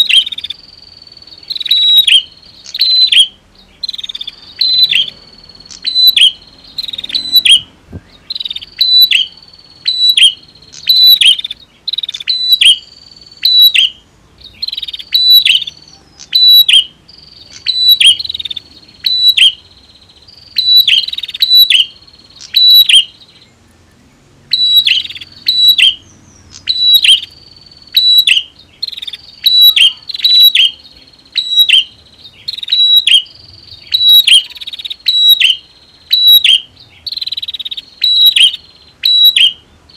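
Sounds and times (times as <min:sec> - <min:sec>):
birds chirping sharply: 0:00.0 - 0:39.9.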